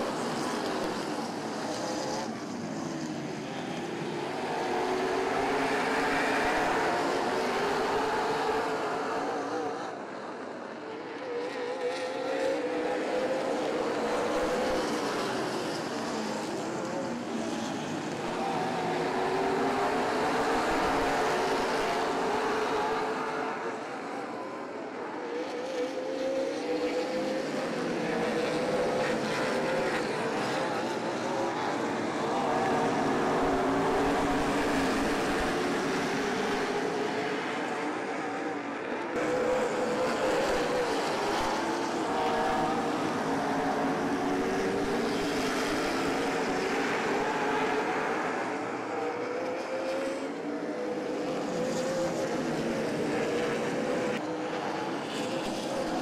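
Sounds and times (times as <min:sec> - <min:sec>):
race car engines accelerating: 0:00.0 - 0:56.0.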